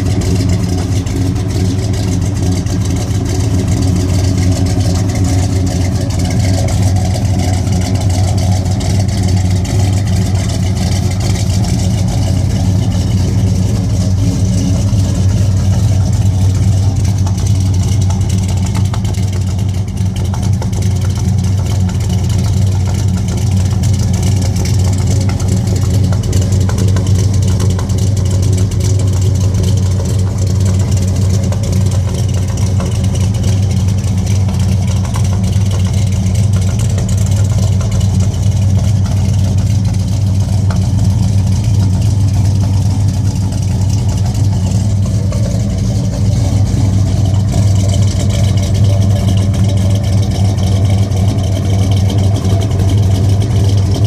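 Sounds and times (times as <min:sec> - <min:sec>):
truck engine droning: 0:00.0 - 0:54.0.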